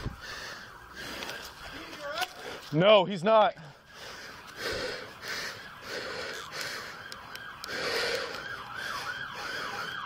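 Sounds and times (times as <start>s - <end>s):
emergency siren yelping: 0.0s - 2.1s, 3.8s - 10.0s.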